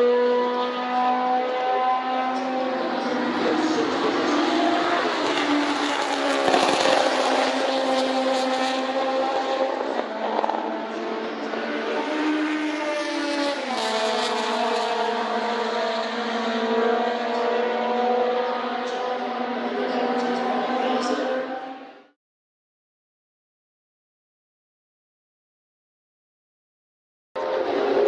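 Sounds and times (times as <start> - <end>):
race cars passing at high revs: 0.0 - 22.2, 27.4 - 28.0.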